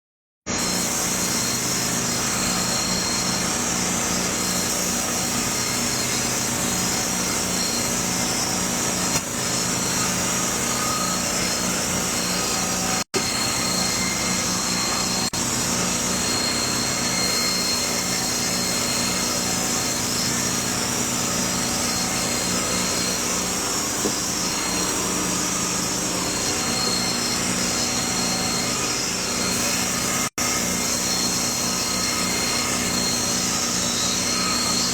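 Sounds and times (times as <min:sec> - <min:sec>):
small motor whining: 0:00.5 - 0:34.9.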